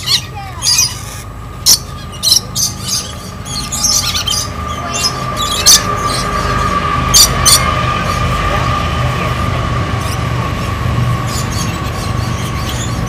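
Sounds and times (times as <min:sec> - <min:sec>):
birds squawking and chirping: 0:00.0 - 0:13.0.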